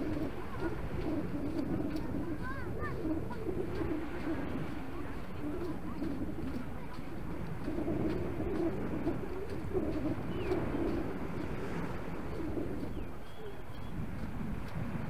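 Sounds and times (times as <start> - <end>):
pigeon cooing: 0.0 - 14.5
surf: 0.0 - 15.0
wind: 0.0 - 15.0.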